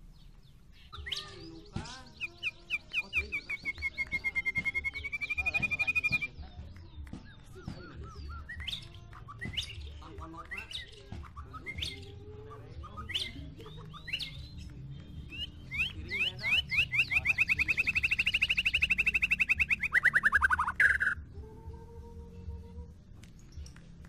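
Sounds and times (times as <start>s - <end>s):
bird singing chirps and trill: 0.0s - 24.0s.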